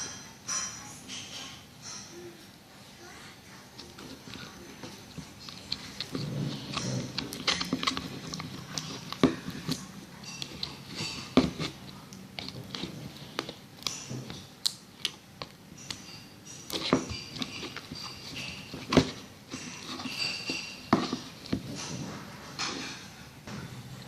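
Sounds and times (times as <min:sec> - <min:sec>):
slime squelching with a spoon: 0:03.7 - 0:23.1.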